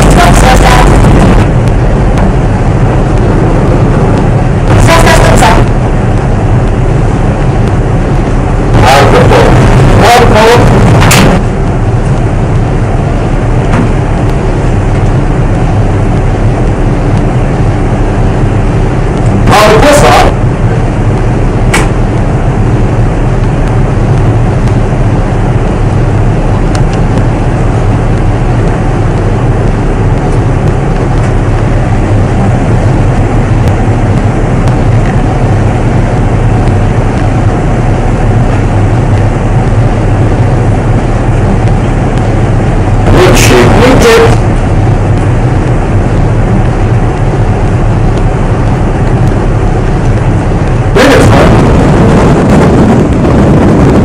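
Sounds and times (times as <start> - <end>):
ship engines humming and rumbling: 0.0 - 54.0.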